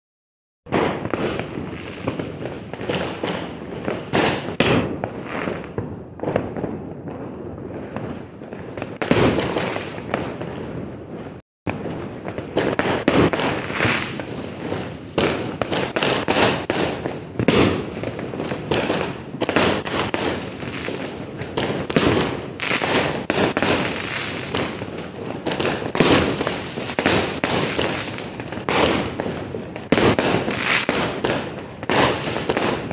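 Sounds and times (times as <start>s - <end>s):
fireworks bangs and crackles: 0.7s - 32.9s.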